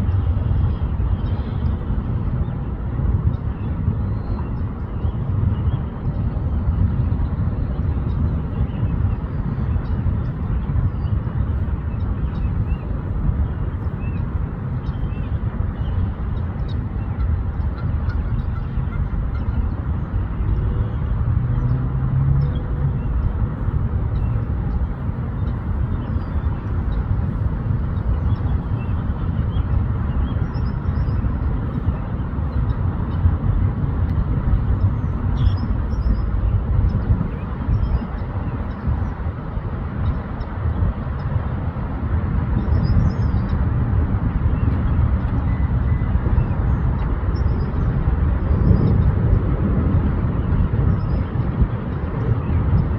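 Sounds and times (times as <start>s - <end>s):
steady low rumble: 0.0s - 52.9s.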